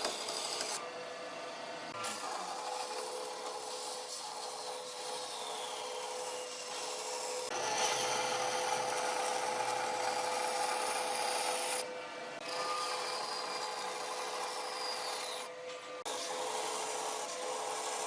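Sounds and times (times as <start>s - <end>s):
tool rasping wood: 0.0s - 0.8s, 1.9s - 11.8s, 12.4s - 18.0s.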